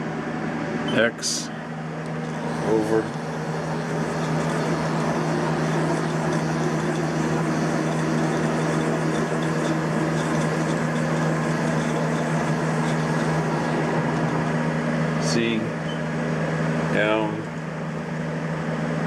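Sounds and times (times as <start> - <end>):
milling machine hum: 1.6 - 16.9.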